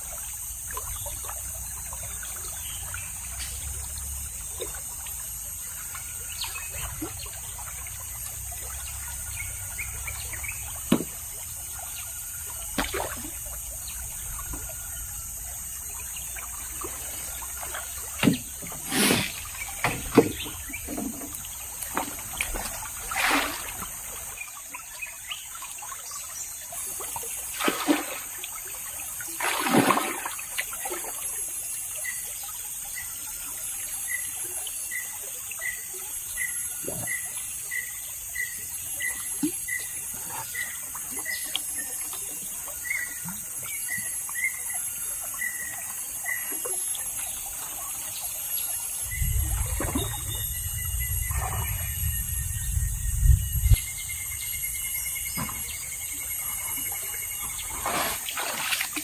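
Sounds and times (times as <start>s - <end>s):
high insect-like hiss: 0.0s - 59.0s
river water trickling and splashing: 0.0s - 59.0s.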